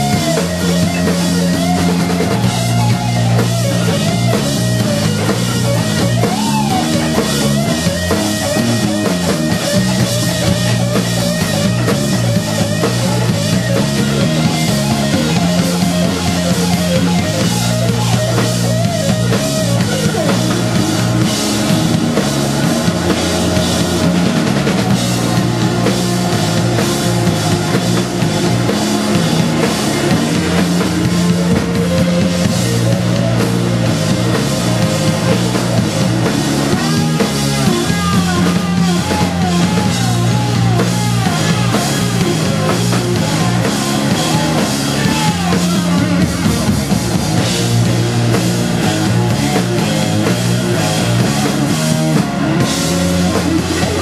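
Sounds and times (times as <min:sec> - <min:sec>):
electric guitar bent notes: 0:00.0 - 0:54.0
live blues-rock band: 0:00.0 - 0:54.0.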